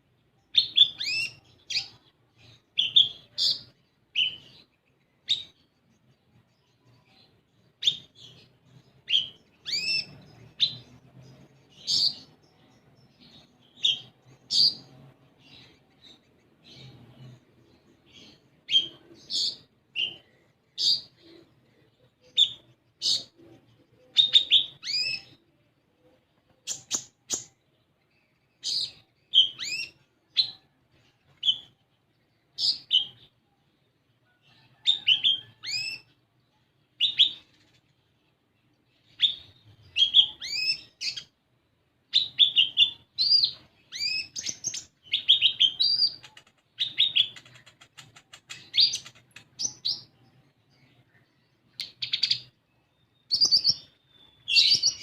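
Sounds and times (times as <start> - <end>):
sunbird chirping: 0.0 - 55.0.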